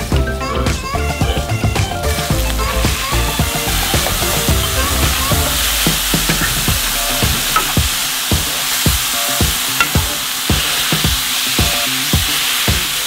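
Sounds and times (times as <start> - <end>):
burger patties sizzling: 0.0 - 13.0
thumping background music: 0.0 - 13.0.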